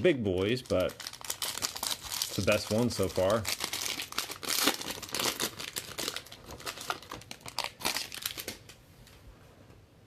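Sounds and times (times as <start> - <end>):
plastic wrapper crinkling and tearing: 0.2 - 8.8.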